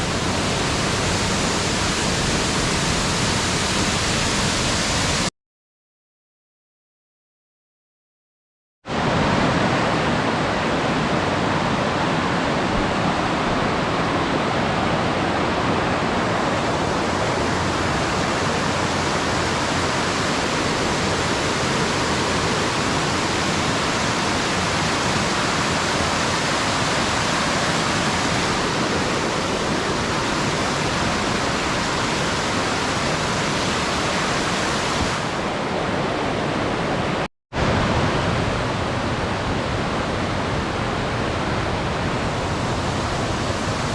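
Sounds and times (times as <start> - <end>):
waterfall rushing: 0.0 - 5.3, 8.9 - 43.9.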